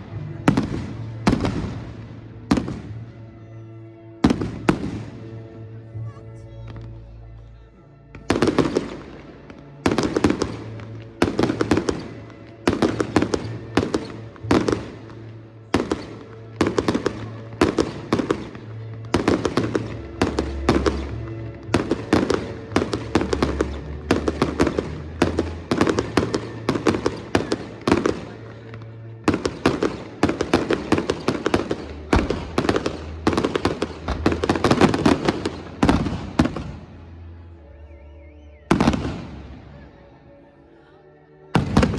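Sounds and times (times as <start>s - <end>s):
music playing: 0.0s - 41.9s.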